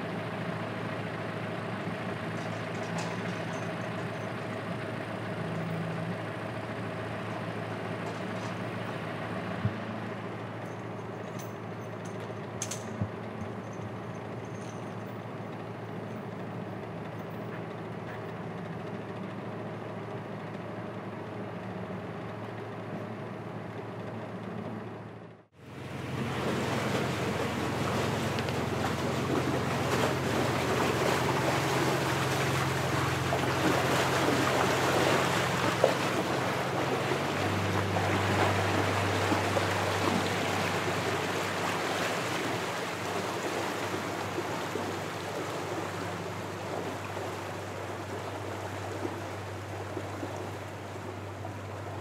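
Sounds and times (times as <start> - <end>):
ferry engine idling: 0.0 - 52.0.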